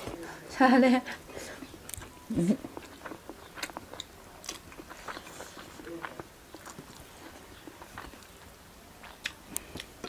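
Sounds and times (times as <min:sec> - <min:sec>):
chewing and biting food: 0:01.6 - 0:10.0.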